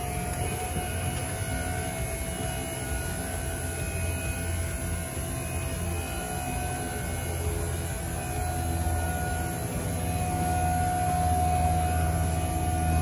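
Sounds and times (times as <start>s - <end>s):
boom lift hydraulics humming: 0.0s - 13.0s.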